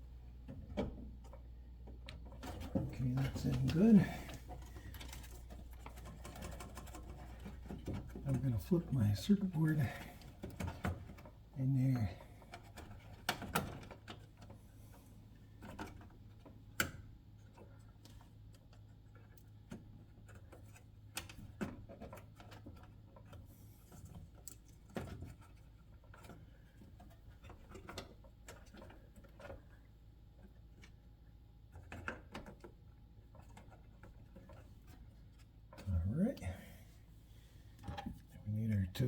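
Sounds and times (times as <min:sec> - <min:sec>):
faint low hum: 0:00.0 - 0:21.3, 0:23.2 - 0:39.0.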